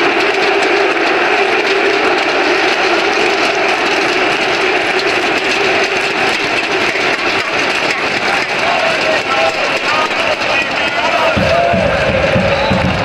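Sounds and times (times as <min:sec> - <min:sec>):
stadium crowd roar: 0:00.0 - 0:13.0.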